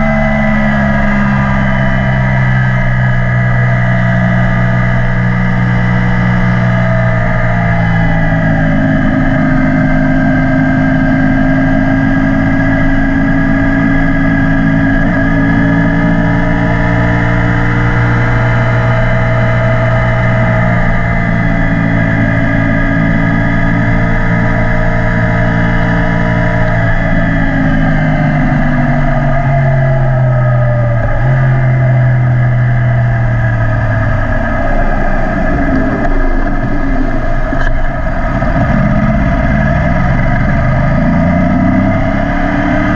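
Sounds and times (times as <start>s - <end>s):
motorcycle engine: 0.0s - 42.9s
wind rushing over microphone: 0.0s - 42.9s.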